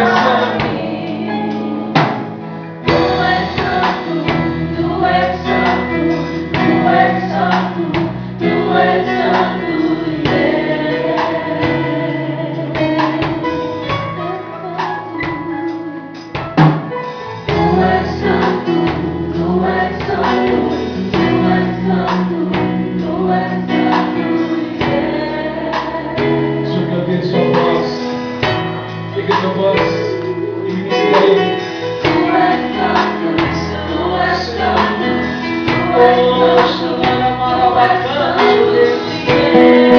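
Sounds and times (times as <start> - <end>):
gospel worship music: 0.0 - 39.9.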